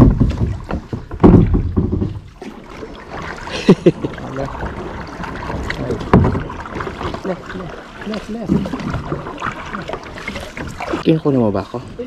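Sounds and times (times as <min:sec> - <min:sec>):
paddle knocking against kayak: 0:00.0 - 0:11.1
paddle splashes: 0:00.0 - 0:12.0.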